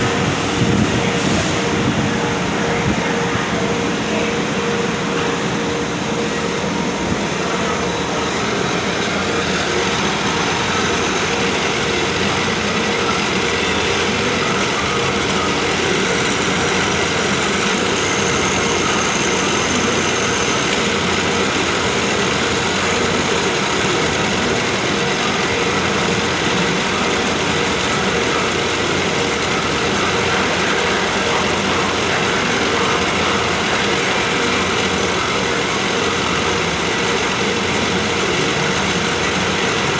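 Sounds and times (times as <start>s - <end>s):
drilling machine humming: 0.0s - 39.9s
faint steady tones: 0.0s - 39.9s.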